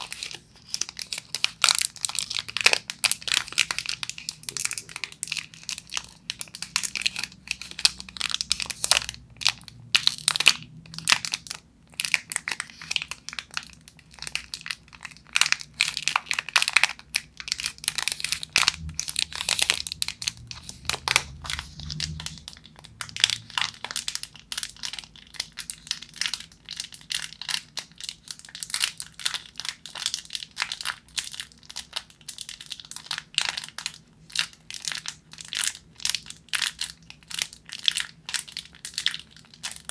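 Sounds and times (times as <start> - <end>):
candy wrappers crinkling: 0.0 - 39.9.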